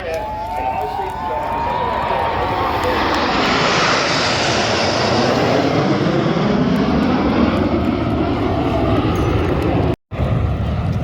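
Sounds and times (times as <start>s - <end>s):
aircraft engine flying past: 0.7s - 11.0s.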